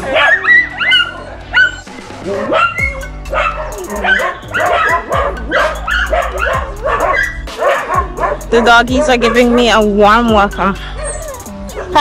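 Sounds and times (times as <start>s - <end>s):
background music: 0.0s - 12.0s
dogs barking and yipping: 0.0s - 12.0s.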